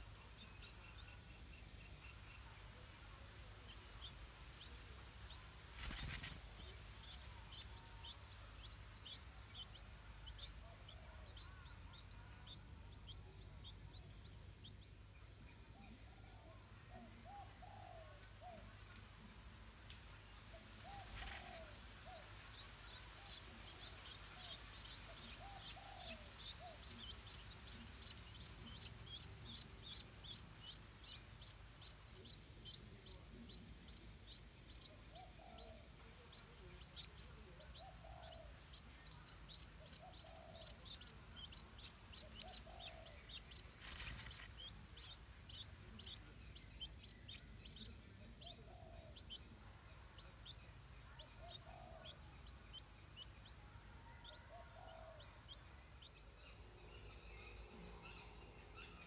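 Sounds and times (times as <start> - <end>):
nestlings begging chirps: 3.7 - 59.0.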